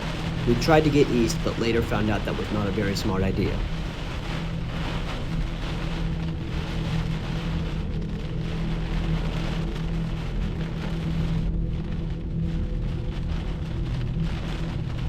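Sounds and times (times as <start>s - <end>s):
heavy rain on a vehicle: 0.0s - 15.0s
low steady hum: 0.0s - 15.0s.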